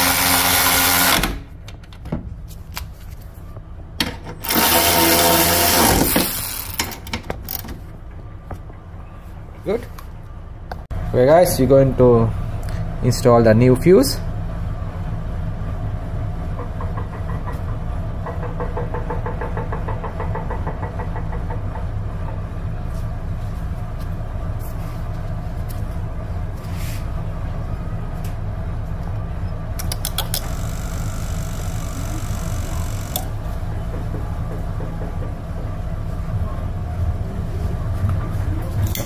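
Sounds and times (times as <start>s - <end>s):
low machine drone: 3.2s - 39.0s.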